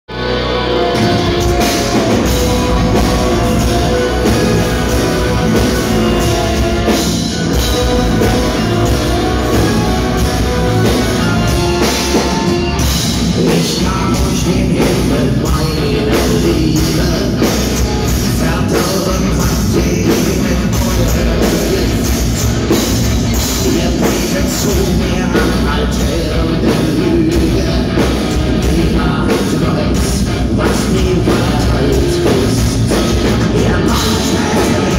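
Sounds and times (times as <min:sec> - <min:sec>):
person singing: 0:00.1 - 0:22.4, 0:23.4 - 0:34.9
distorted electric guitars: 0:00.1 - 0:34.9
driving drum kit: 0:00.1 - 0:34.9.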